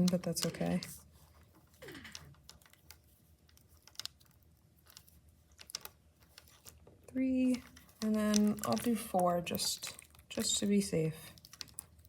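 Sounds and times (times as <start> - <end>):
plastic cord and beads rustling: 0.0 - 12.0.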